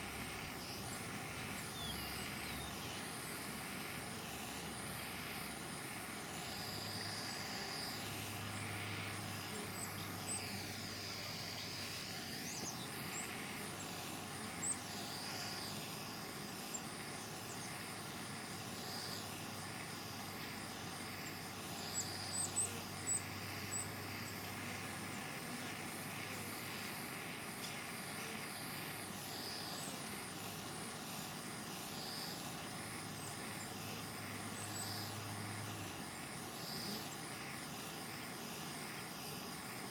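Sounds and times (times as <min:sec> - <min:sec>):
propane torch hissing: 0:00.0 - 0:39.9.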